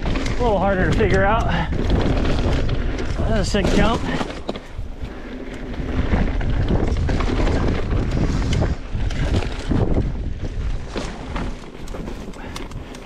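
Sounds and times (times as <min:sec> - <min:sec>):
bike knocks and rattles: 0:00.0 - 0:13.0
tyre rumble on dirt: 0:00.0 - 0:13.0
wind rushing over microphone: 0:00.0 - 0:13.0.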